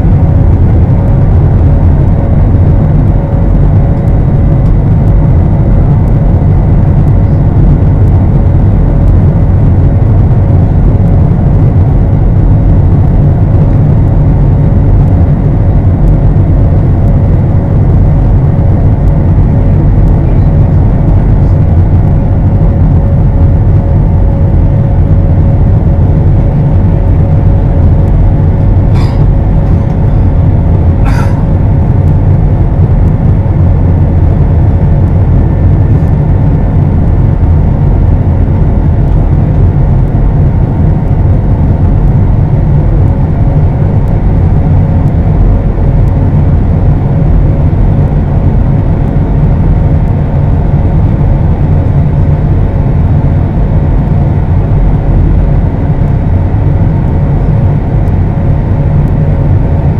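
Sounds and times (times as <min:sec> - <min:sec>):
faint steady hum: 0:00.0 - 0:59.9
jet engine deep rumble: 0:00.0 - 0:59.9.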